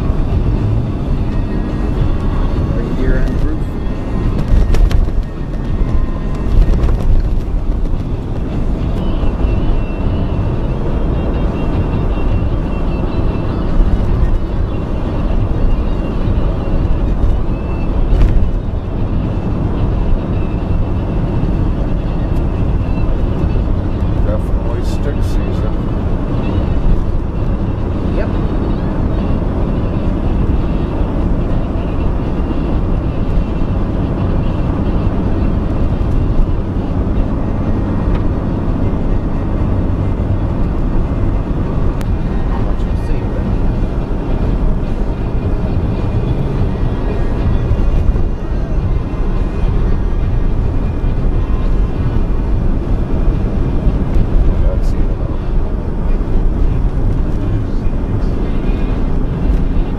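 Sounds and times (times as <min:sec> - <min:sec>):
vehicle road and engine rumble: 0:00.0 - 0:59.9.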